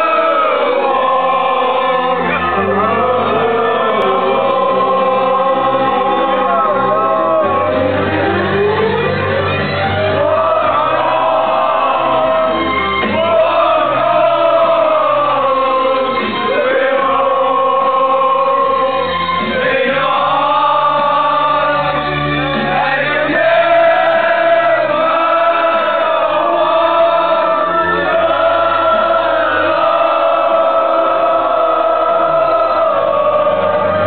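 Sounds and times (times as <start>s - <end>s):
men singing in chorus: 0.0s - 8.9s, 9.9s - 34.0s
musical backing: 0.0s - 34.0s.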